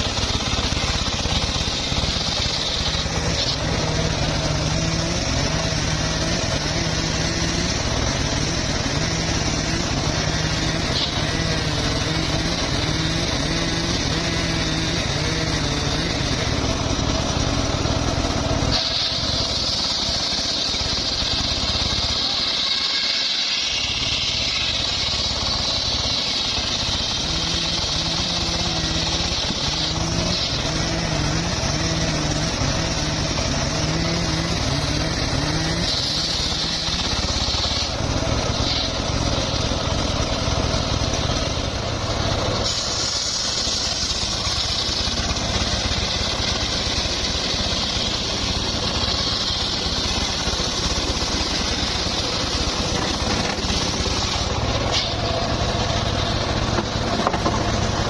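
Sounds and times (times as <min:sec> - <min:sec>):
engine-driven saw cutting wood: 0:00.0 - 0:58.0.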